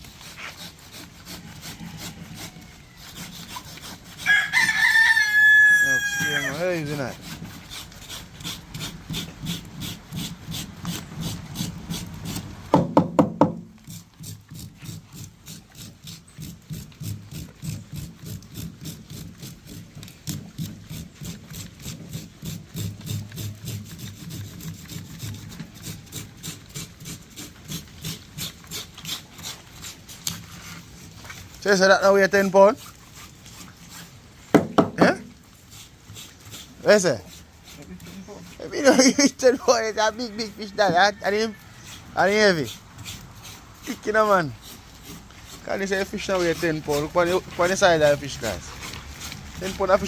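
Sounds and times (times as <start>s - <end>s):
knife scraping fish scales: 0.0s - 5.0s, 6.2s - 12.6s, 13.8s - 34.3s, 35.0s - 39.6s, 40.4s - 50.0s.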